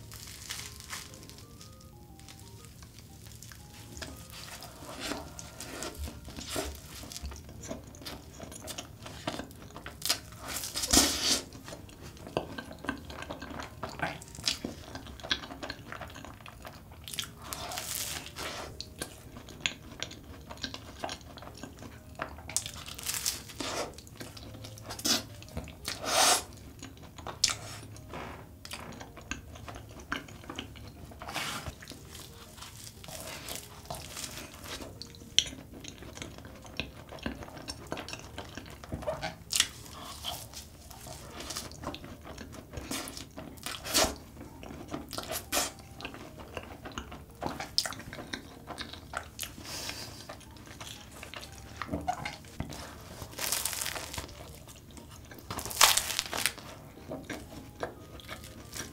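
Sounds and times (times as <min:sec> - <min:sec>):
biting and chewing pastries: 0:00.0 - 0:58.9.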